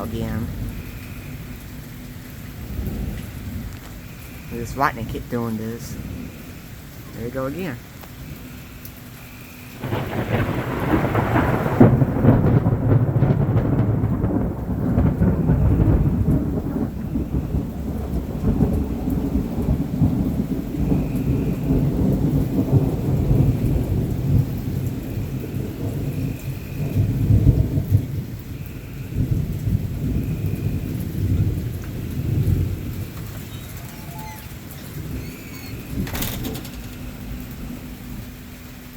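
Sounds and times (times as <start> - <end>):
thunder crack and rumble: 0.0 - 6.6, 9.8 - 38.9
heavy rain: 0.0 - 38.9.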